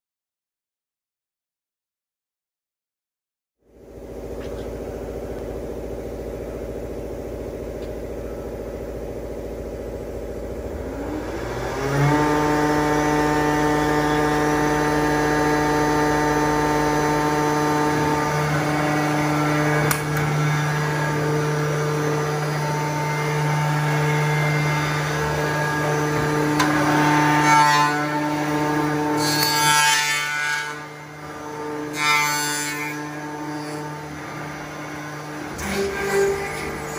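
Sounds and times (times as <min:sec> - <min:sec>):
woodworking machine motor: 0:04.0 - 0:36.9.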